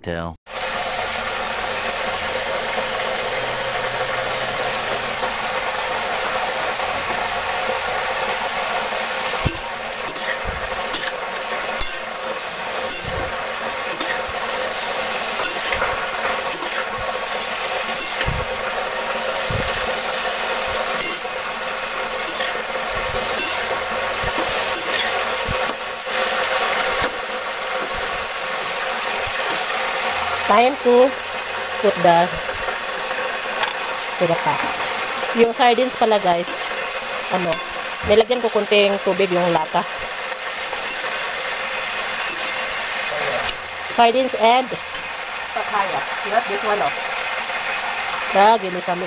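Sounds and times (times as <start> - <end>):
food sizzling in a pan: 0.5 - 49.0.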